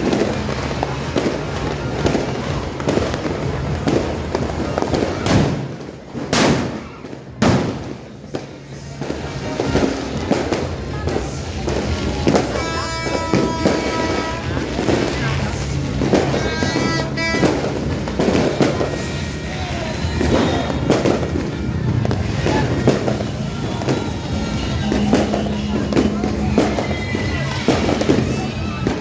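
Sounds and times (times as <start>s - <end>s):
firecrackers crackling: 0.0s - 29.0s
loud firework bangs: 0.0s - 29.0s.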